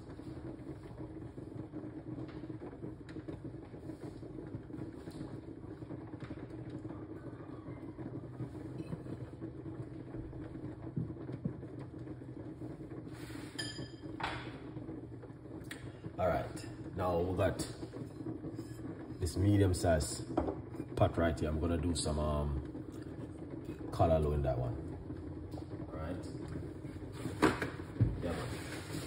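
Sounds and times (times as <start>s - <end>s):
stovetop burner hum and rush: 0.0s - 29.0s.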